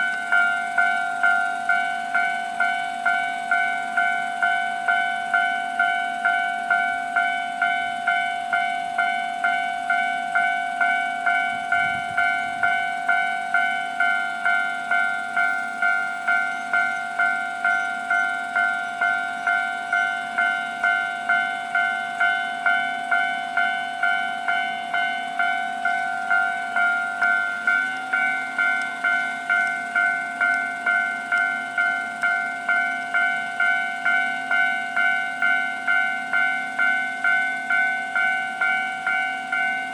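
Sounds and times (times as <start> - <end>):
level crossing bell ringing: 0.0 - 39.9.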